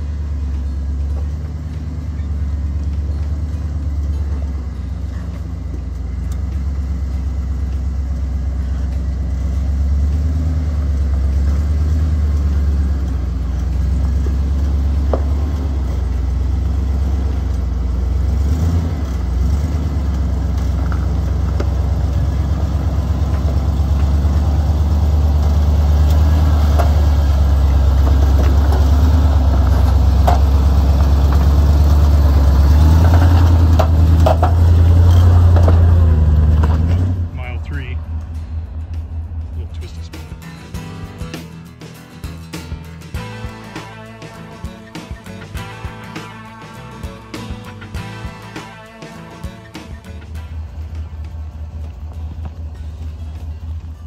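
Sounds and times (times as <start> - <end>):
truck engine crawling over rocks: 0.0 - 54.0.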